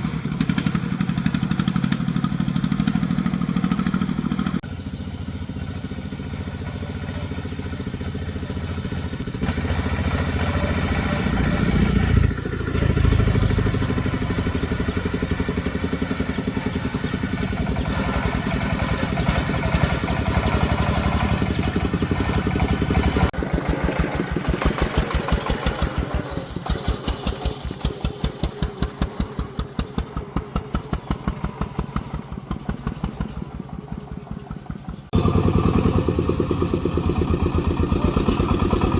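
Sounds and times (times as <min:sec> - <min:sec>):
engine chugging: 0:00.0 - 0:38.9.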